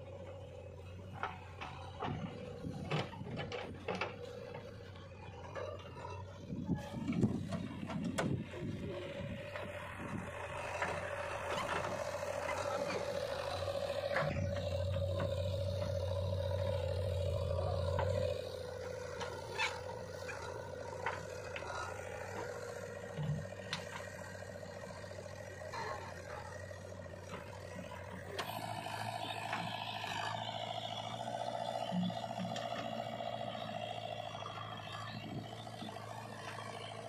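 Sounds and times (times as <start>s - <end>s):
diesel engine working: 0.0s - 37.0s.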